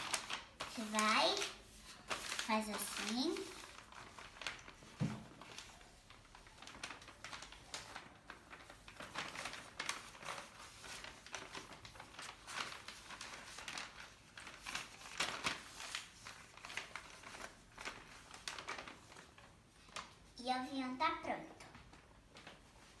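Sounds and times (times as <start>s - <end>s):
paper rustling and crinkling: 0.0s - 20.4s, 21.6s - 23.0s.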